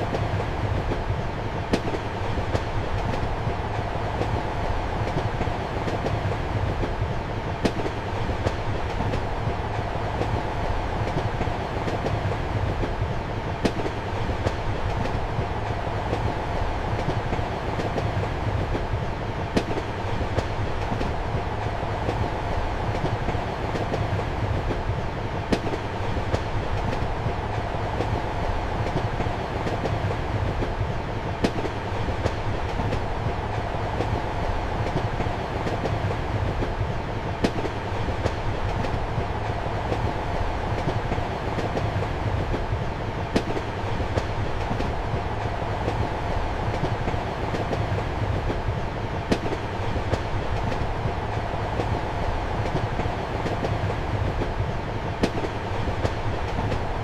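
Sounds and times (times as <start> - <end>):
passenger train rumbling: 0.0 - 57.0.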